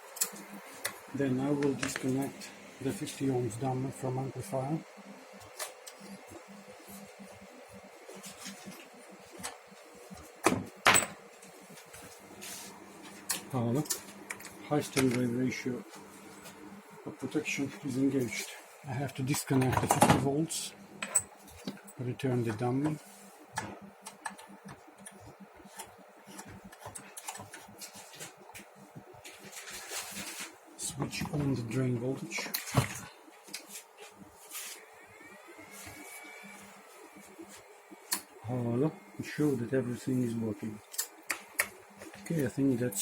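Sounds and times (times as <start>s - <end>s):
faint hum: 0.0s - 43.0s.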